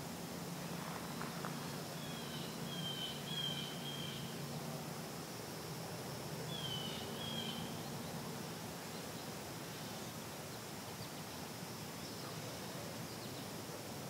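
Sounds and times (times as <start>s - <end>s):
high insect hum: 0.0s - 14.0s.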